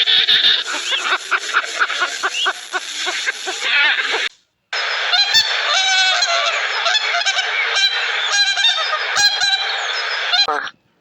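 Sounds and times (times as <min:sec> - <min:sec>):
flock of fowl calling: 0:00.0 - 0:04.3, 0:05.1 - 0:10.8.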